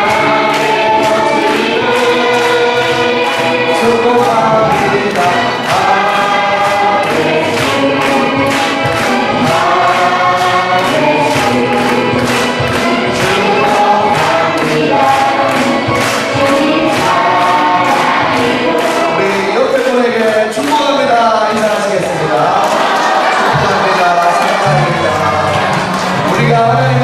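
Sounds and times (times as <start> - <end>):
backing music: 0.0 - 27.0
choir singing praise song: 0.0 - 27.0
hand-clapping: 0.0 - 27.0.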